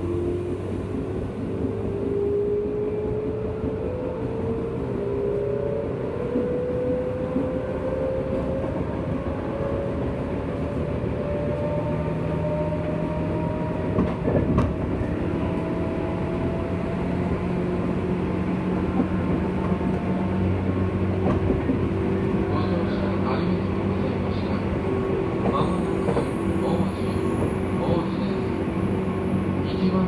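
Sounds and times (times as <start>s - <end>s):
train wheel and rail rumble: 0.0s - 30.0s.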